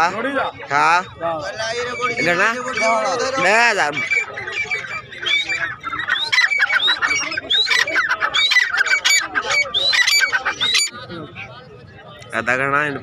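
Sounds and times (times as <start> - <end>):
francolins calling: 0.0 - 11.6.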